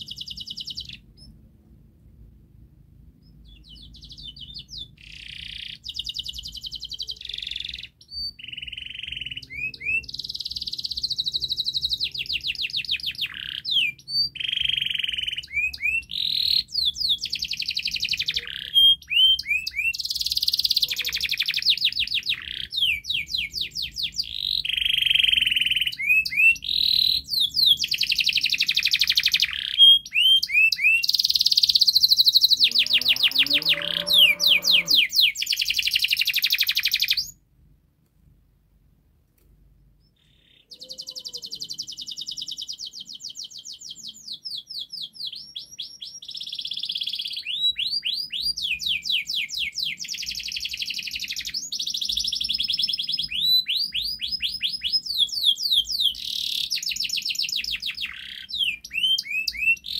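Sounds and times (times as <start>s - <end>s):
canary singing trills: 0.0s - 1.4s, 3.2s - 37.4s, 40.0s - 59.9s.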